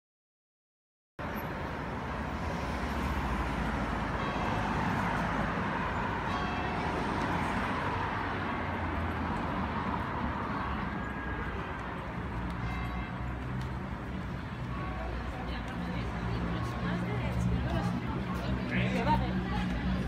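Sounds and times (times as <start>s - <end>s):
cars passing: 1.2s - 20.0s.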